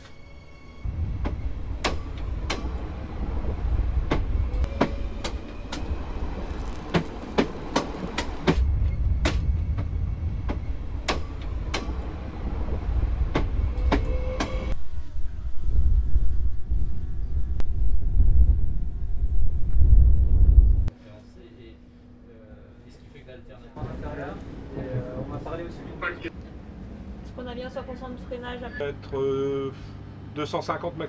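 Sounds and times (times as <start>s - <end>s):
train rumbling past: 0.3s - 20.9s, 23.7s - 28.7s.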